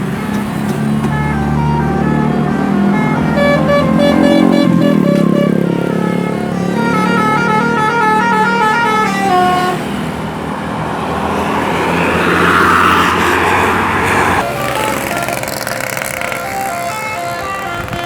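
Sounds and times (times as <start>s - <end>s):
multi-tone bus horn tune: 0.0s - 10.6s, 11.4s - 18.0s
low engine hum: 0.0s - 18.0s.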